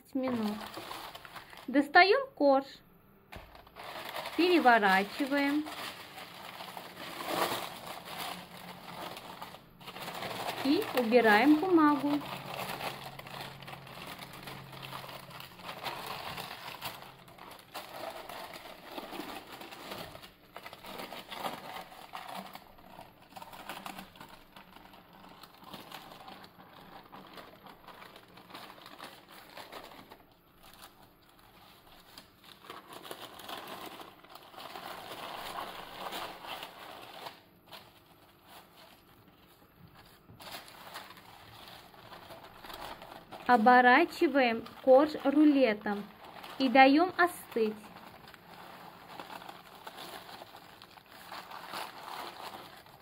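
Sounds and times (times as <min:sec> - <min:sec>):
parchment paper rustling: 0:00.0 - 0:02.0, 0:03.3 - 0:53.0.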